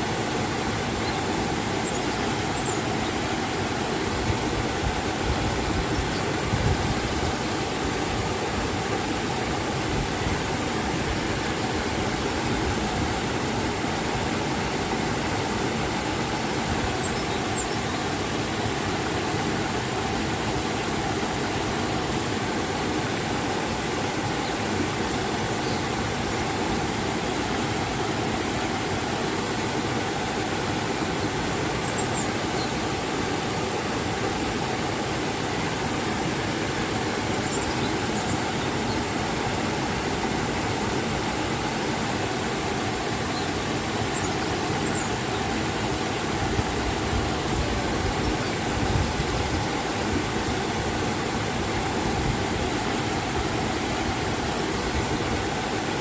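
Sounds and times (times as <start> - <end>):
river and waterfall rushing: 0.0 - 56.0.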